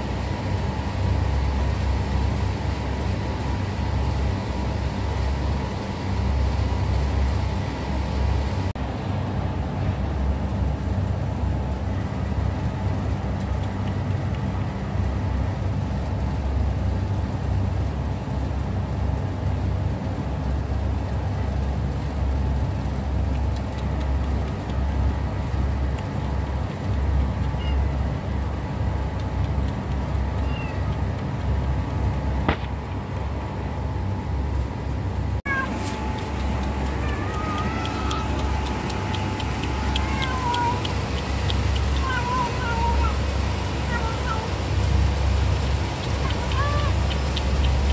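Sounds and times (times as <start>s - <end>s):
low rumbling background noise: 0.0s - 47.9s.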